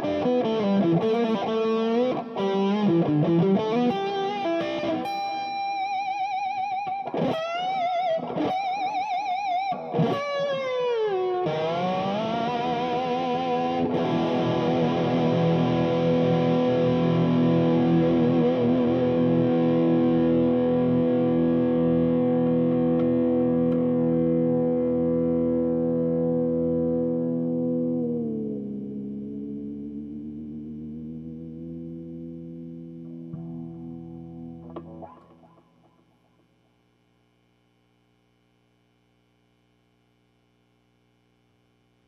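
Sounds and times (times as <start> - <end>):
distorted electric guitar notes: 0.0 - 36.1.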